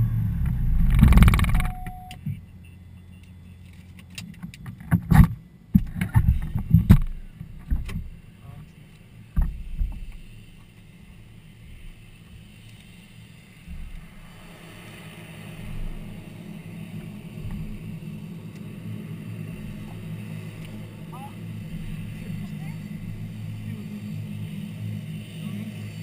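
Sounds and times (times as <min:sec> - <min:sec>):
propeller aircraft engine drone: 0:00.0 - 0:26.0.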